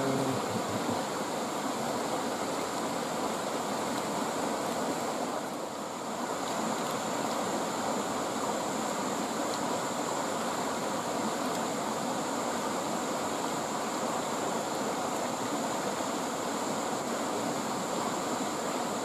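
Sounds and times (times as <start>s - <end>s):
river flowing over rocks: 0.0s - 19.0s.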